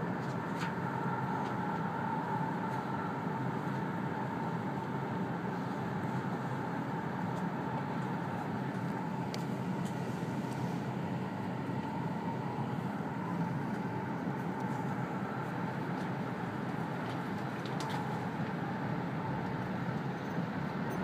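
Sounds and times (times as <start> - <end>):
train cabin rumble and hiss: 0.0 - 21.0.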